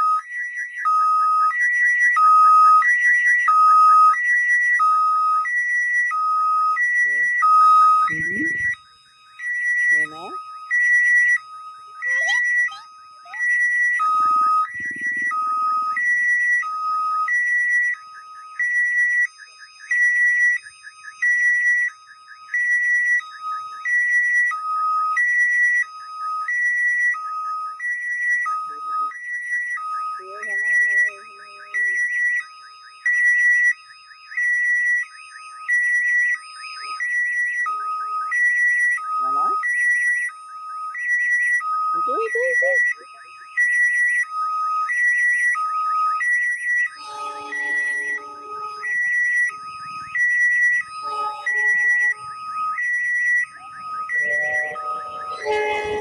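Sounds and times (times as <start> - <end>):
level crossing two-tone alarm: 0.0 - 56.0.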